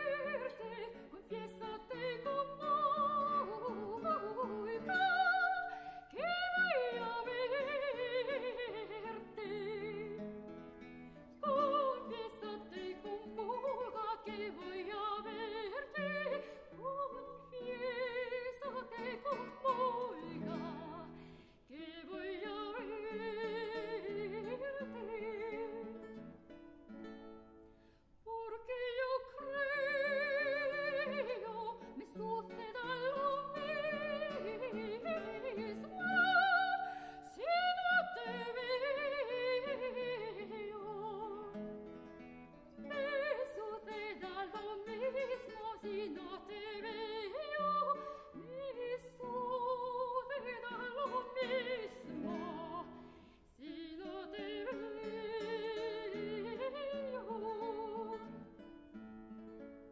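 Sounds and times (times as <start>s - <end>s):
soprano operatic singing: 0.0s - 26.3s, 28.2s - 42.0s, 42.8s - 58.8s
plucked classical guitar: 0.0s - 59.9s.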